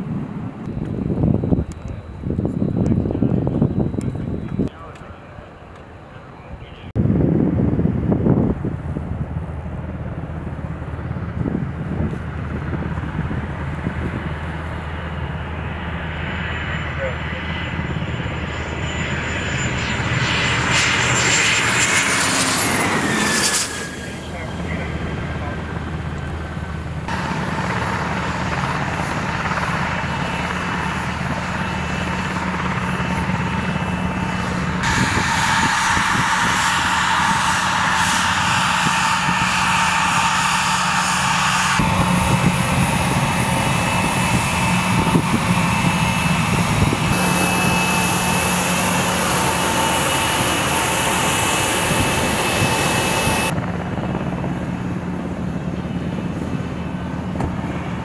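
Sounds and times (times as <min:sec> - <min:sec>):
jet engine whine: 0:00.0 - 0:58.0
low engine rumble: 0:00.0 - 0:58.0.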